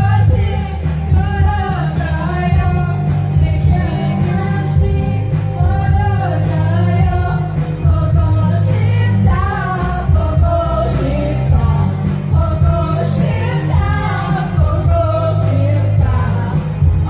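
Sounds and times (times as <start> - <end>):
backing track with heavy bass: 0.0 - 17.0
women singing karaoke: 0.0 - 17.0.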